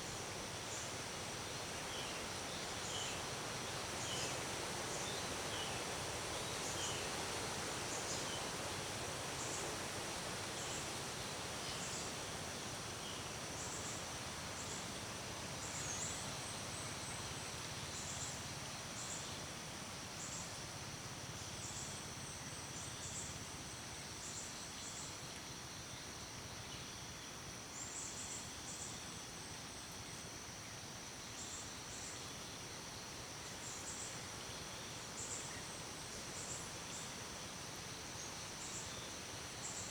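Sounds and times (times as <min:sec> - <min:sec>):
steady hiss: 0:00.0 - 0:25.0, 0:26.2 - 0:39.9.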